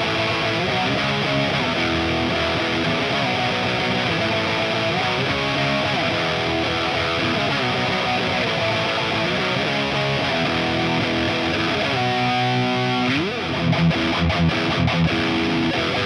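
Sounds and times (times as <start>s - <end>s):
electric guitar with bent notes: 0.0s - 16.0s.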